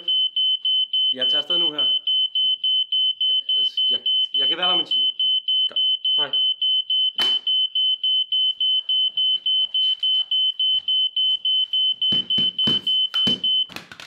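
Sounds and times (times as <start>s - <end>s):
smoke alarm beeping: 0.0s - 13.7s.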